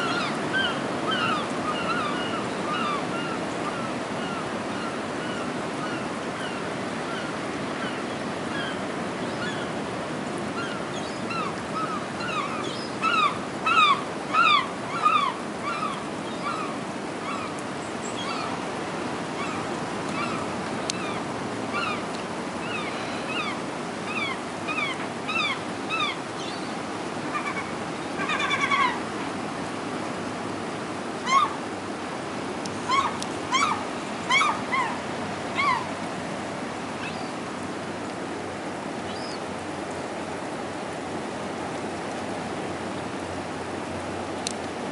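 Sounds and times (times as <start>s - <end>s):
rain: 0.0s - 44.9s.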